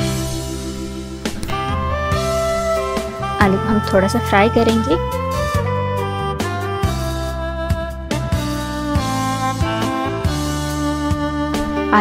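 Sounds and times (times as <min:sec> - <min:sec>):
instrumental music: 0:00.0 - 0:12.0.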